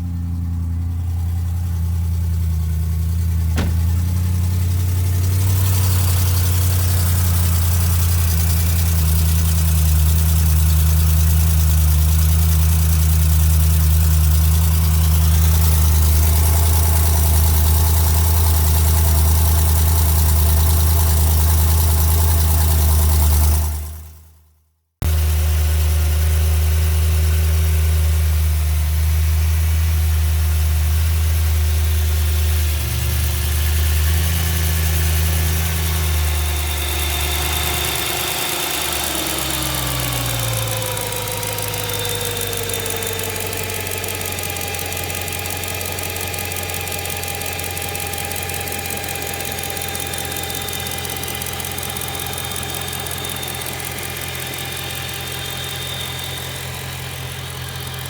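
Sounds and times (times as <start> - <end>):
car engine running: 0.0 - 24.1, 25.0 - 58.0
exhaust leak ticking: 0.2 - 23.3, 32.2 - 58.0.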